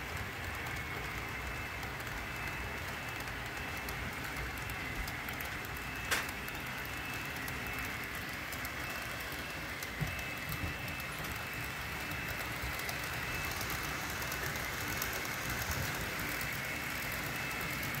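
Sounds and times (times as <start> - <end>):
model train motor whine: 0.0 - 18.0
wheel and rail clicks: 0.0 - 18.0.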